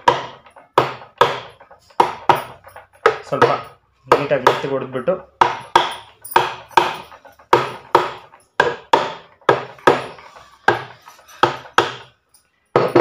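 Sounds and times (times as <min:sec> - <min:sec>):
hammer tapping on metal: 0:00.0 - 0:13.0.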